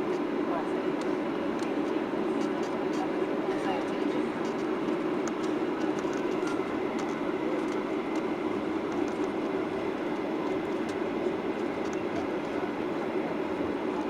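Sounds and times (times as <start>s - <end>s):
airplane cabin hum: 0.0s - 14.0s.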